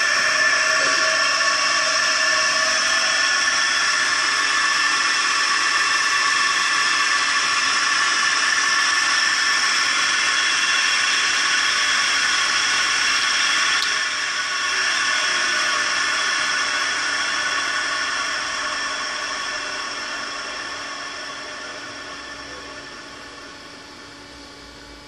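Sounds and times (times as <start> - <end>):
motor shaft whirring: 0.0 - 25.0.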